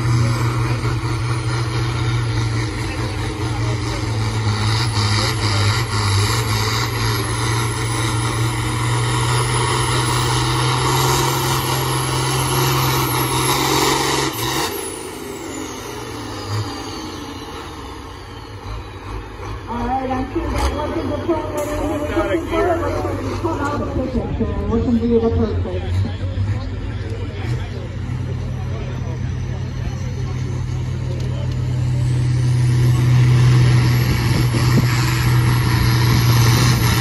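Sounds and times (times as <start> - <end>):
tractor diesel engine at full throttle: 0.0 - 37.0.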